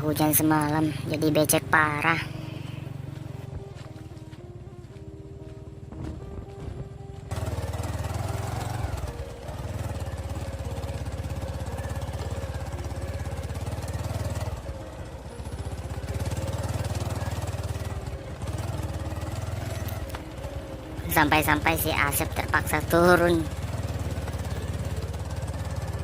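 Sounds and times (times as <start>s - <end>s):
small motorcycle engine revving: 0.9s - 3.8s, 5.9s - 26.0s.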